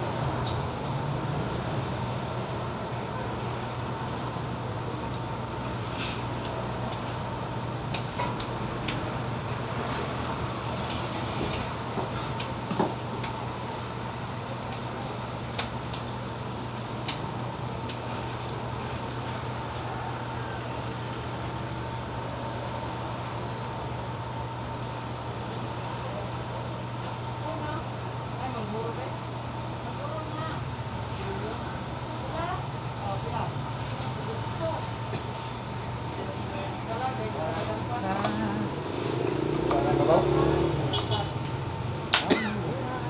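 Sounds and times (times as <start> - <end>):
electric fans humming: 0.0 - 43.0.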